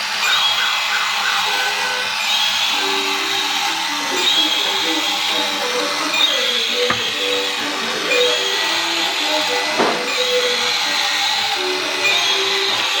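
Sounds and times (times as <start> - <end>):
small motor whirring: 0.1 - 13.0.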